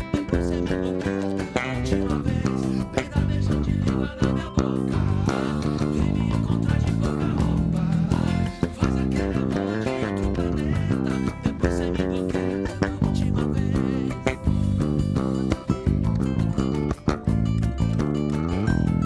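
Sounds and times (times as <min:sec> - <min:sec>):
electric bass guitar plucked notes: 0:00.0 - 0:19.0.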